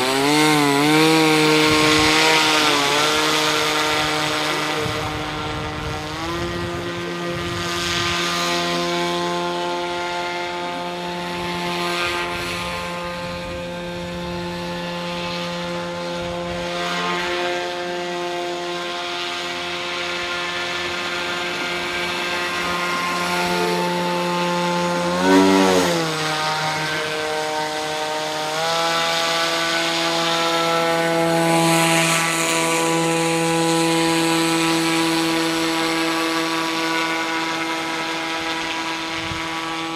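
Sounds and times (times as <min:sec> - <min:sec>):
electric motor propeller whine: 0:00.0 - 0:39.9.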